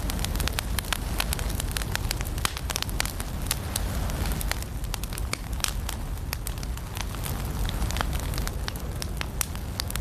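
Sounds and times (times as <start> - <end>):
fire crackling and popping: 0.0 - 10.0
low fire rumble: 0.0 - 10.0.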